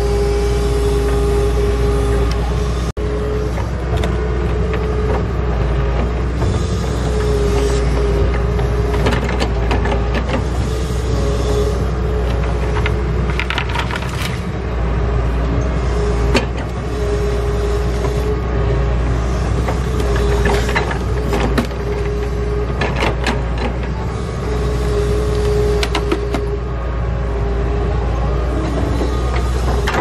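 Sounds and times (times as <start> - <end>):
excavator diesel engine running: 0.0 - 30.0
hydraulic whine: 0.0 - 30.0.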